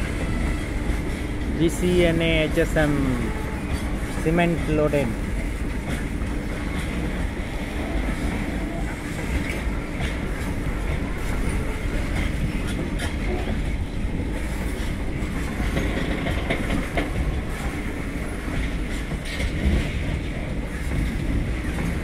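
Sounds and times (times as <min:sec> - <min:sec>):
train wheels rumbling on rails: 0:00.0 - 0:22.0
wheels clicking over rail joints: 0:00.0 - 0:22.0.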